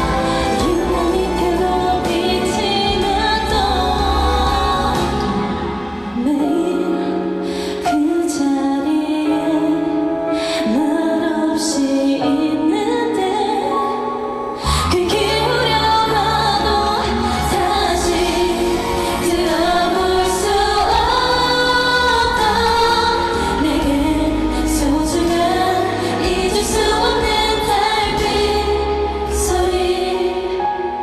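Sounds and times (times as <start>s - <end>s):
pop backing track with bass: 0.0s - 31.0s
women singing into microphones: 0.0s - 31.0s.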